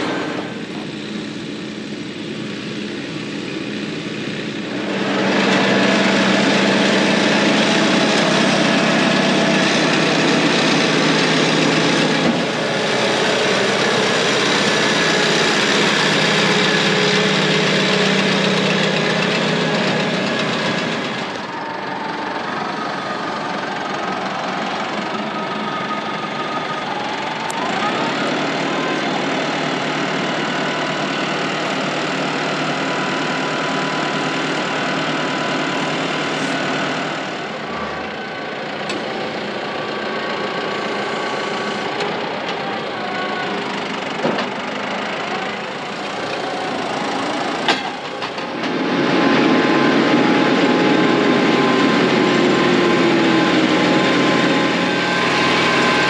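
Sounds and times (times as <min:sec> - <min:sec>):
tractor diesel engines running: 0:00.0 - 0:56.0.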